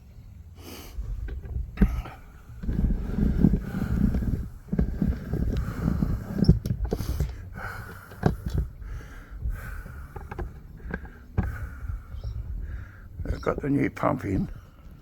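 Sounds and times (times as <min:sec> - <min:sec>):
low rumbling: 0:00.0 - 0:15.0
handling knocks and clicks: 0:01.2 - 0:15.0.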